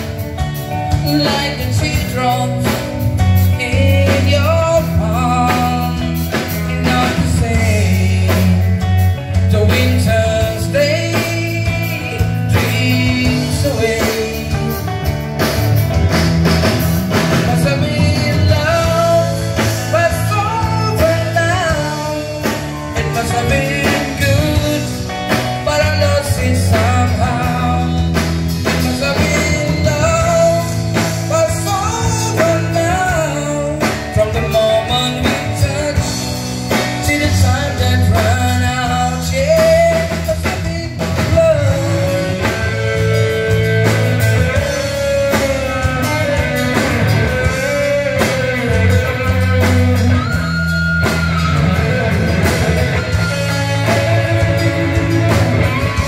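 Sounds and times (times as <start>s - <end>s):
man singing: 0.0s - 15.6s, 17.1s - 56.0s
live rock band playing: 0.0s - 56.0s.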